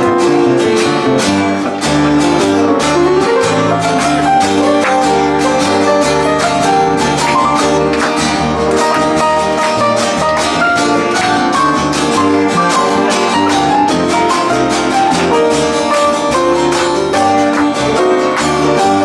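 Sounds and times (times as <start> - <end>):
guitar instrumental music: 0.0 - 19.0.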